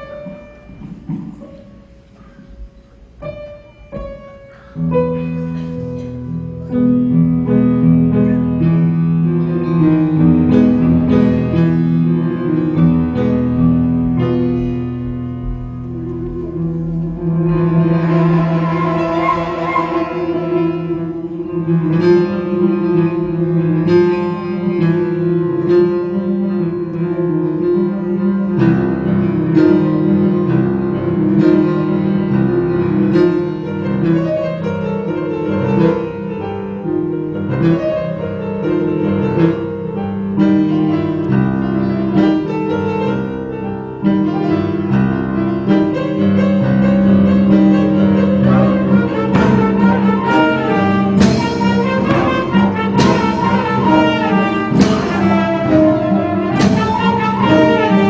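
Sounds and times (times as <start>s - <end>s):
instrumental music: 0.0s - 58.0s.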